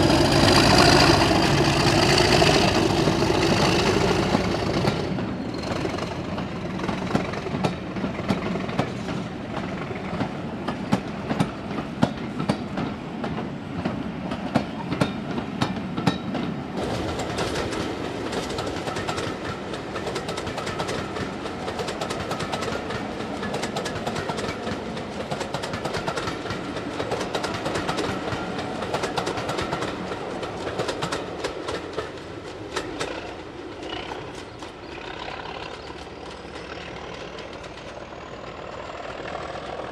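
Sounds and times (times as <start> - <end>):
train rumble: 0.0 - 39.9
train wheels clicking over rail joints: 0.0 - 39.9.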